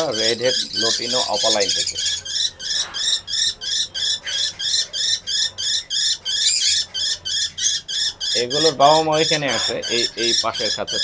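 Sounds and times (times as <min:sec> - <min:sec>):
lovebird squawking: 0:00.0 - 0:11.0.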